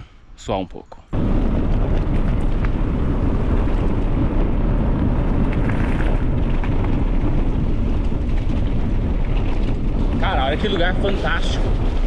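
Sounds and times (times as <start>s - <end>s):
wind buffeting microphone: 1.1s - 12.0s
faint bicycle rattles: 1.7s - 12.0s.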